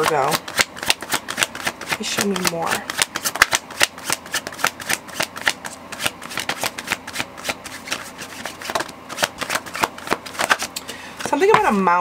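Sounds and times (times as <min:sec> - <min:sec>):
cards being shuffled: 0:00.0 - 0:11.8.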